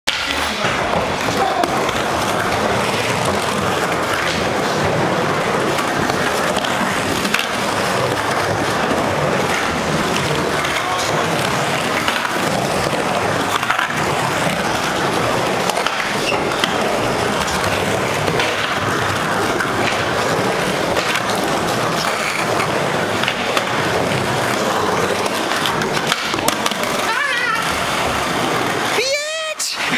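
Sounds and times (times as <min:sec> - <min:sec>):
skateboard clacks: 0:00.1 - 0:29.9
skateboard wheels rolling: 0:00.1 - 0:29.9.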